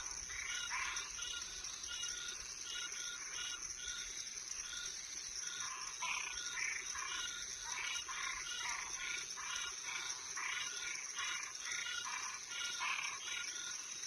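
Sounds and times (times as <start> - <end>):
crickets droning: 0.0 - 14.0
frogs calling: 0.0 - 14.0.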